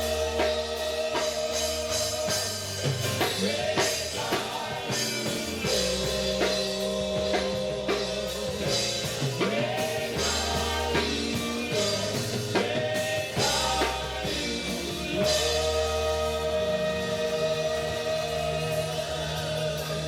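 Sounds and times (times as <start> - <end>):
church band playing gospel music: 0.0 - 20.0
voices singing: 0.0 - 20.0.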